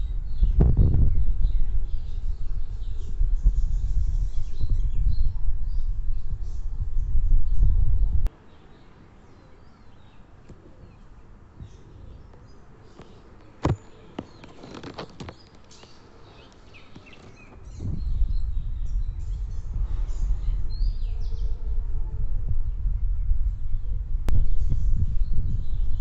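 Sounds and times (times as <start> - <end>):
wind buffeting microphone: 0.0 - 8.3, 10.6 - 26.0.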